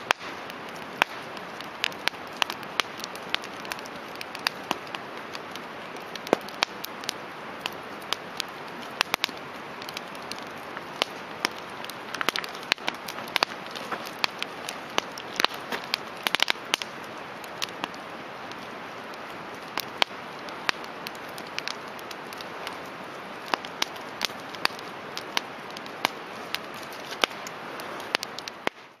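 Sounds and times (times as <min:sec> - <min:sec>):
campfire crackling and popping: 0:00.0 - 0:29.0
hiss of burning: 0:00.0 - 0:29.0.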